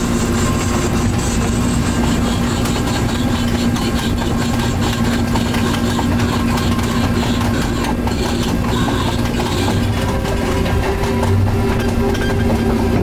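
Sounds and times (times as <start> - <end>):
miniature train rumbling on track: 0.0 - 13.0
clicking wheels: 1.4 - 13.0.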